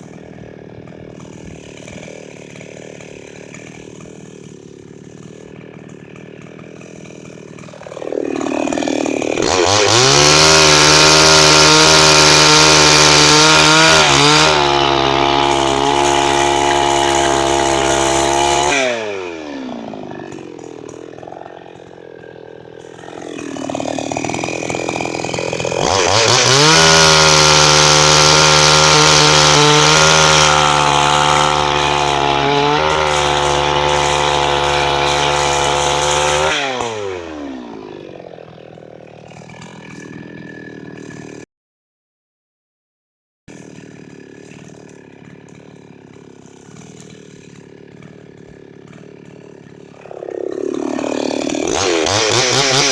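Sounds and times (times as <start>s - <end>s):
chainsaw idling and revving: 0.0s - 41.5s, 43.5s - 52.9s.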